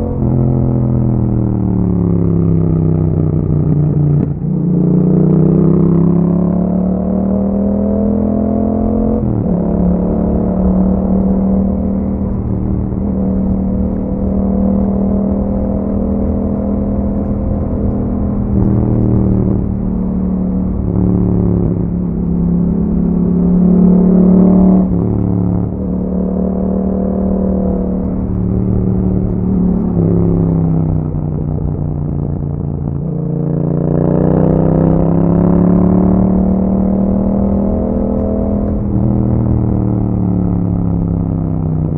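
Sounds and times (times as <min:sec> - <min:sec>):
motorcycle engine riding: 0:00.0 - 0:41.9.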